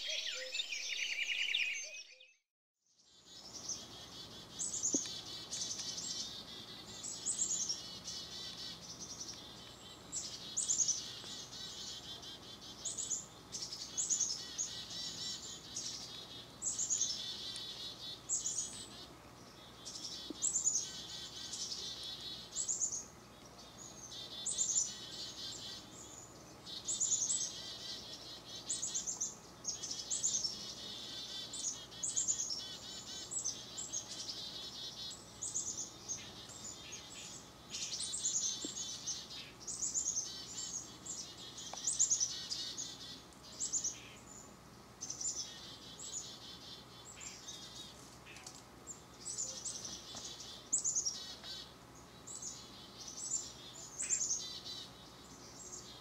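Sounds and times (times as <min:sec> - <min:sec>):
small birds calling: 0:00.0 - 0:02.4, 0:03.0 - 0:56.0.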